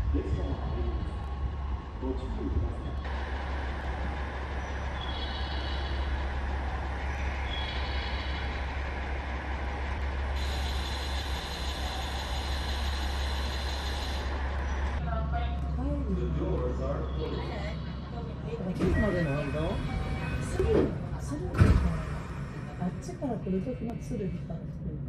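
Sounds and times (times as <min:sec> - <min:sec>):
train equipment humming: 0:00.0 - 0:25.0.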